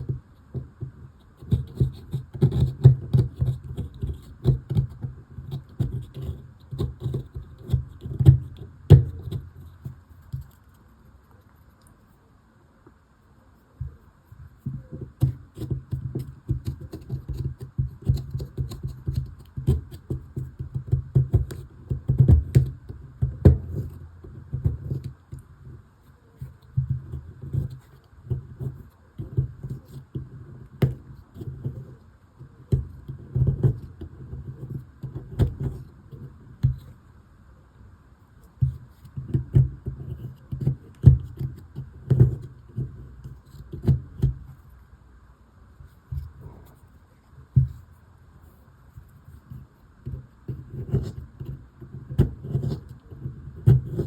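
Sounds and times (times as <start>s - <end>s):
taps knocks and scrapes: 0.0s - 11.8s, 13.6s - 37.0s, 38.4s - 44.8s, 45.8s - 54.0s.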